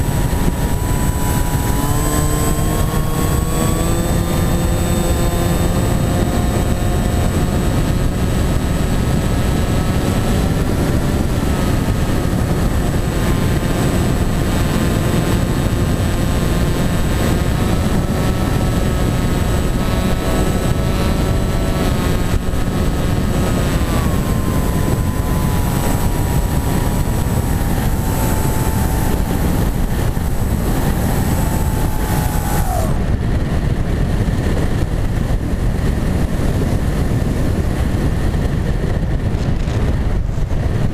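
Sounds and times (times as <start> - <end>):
model plane motor whine: 0.0 - 40.9
rushing wind noise: 0.0 - 40.9.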